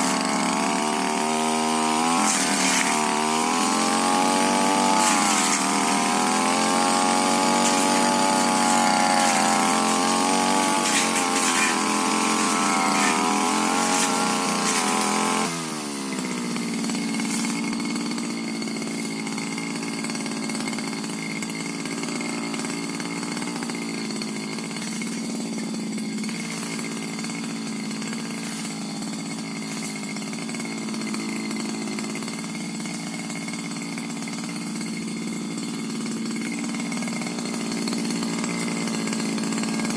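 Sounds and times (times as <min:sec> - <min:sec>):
brush cutter engine: 0:00.0 - 0:39.9.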